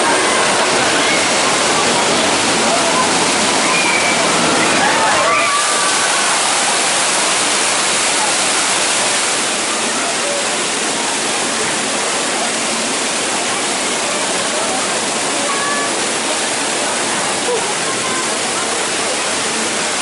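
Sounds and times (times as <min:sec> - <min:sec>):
faint voices: 0:00.0 - 0:20.0
heavy rushing water: 0:00.0 - 0:20.0.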